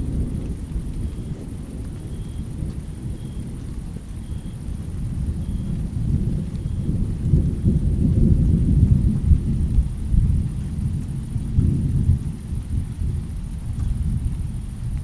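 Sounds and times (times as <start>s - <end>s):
low rolling thunder: 0.0s - 15.0s
rain hiss: 0.0s - 15.0s.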